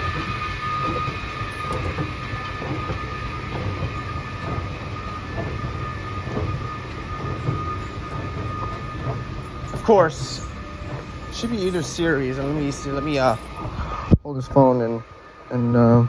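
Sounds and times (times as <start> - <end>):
faint clack of escalator steps: 0.0 - 14.2
escalator mechanical hum and whine: 0.0 - 16.0.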